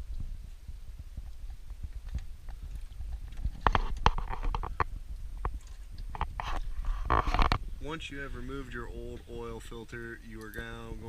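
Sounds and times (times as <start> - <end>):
microphone handling rumble: 0.0 - 11.0.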